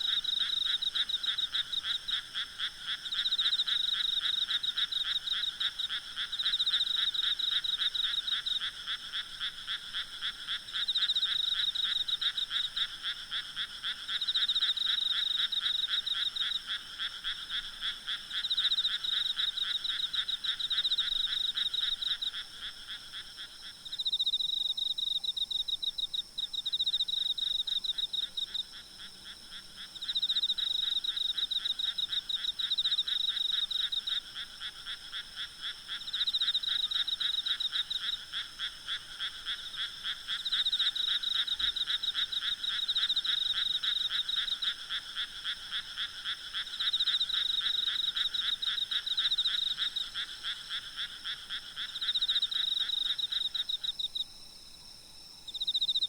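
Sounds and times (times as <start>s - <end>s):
frogs trilling: 0.0s - 54.3s, 55.2s - 56.0s.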